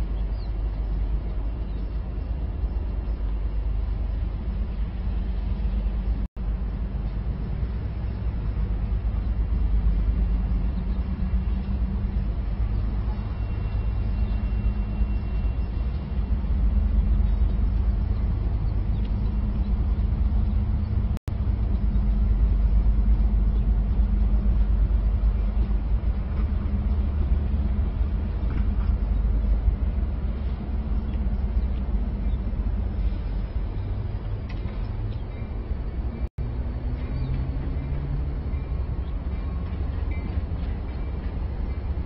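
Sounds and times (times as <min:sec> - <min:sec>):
city background rumble: 0:00.0 - 0:42.0.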